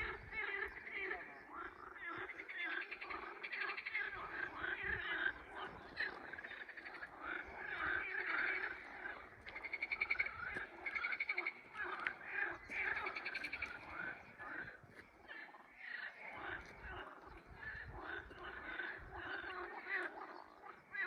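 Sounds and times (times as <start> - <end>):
frogs croaking: 0.0 - 21.0
frogs rattling trills: 0.0 - 21.0.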